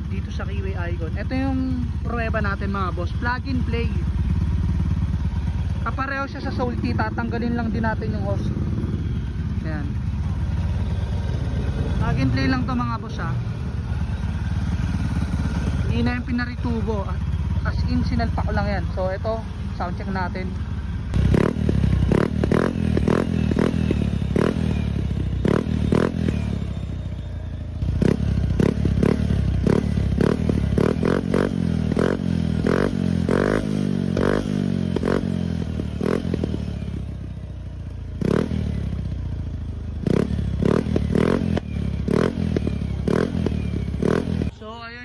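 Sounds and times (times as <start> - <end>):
scooter engine revving: 0.0 - 44.9.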